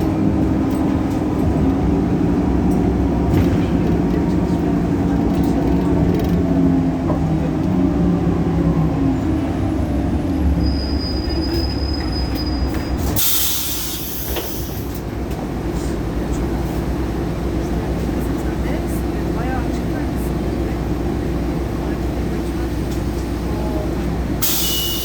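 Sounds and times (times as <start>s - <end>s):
bus diesel engine running: 0.0s - 25.0s.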